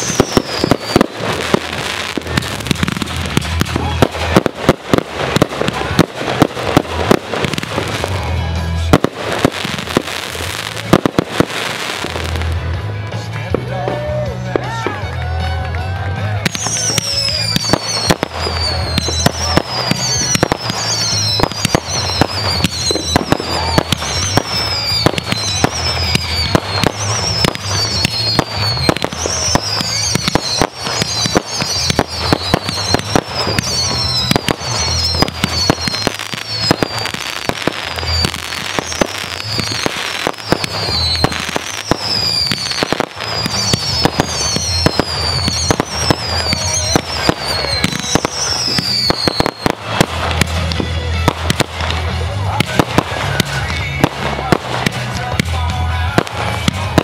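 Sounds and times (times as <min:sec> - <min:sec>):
firework bangs and crackles: 0:00.0 - 0:57.0.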